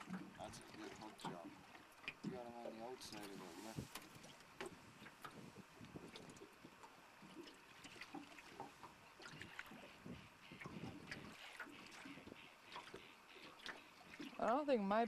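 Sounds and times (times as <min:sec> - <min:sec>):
water lapping at boat hull: 0:00.0 - 0:15.0.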